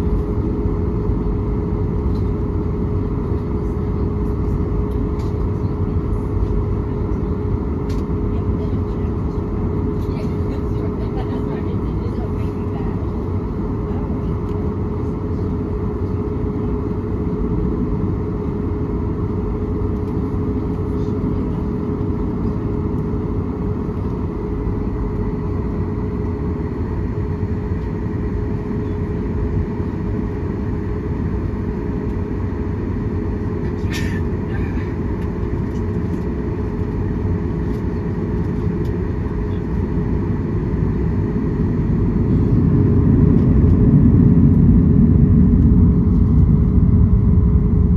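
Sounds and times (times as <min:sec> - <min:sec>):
constant hum: 0:00.0 - 0:47.9
jet cabin engine rumble: 0:00.0 - 0:47.9.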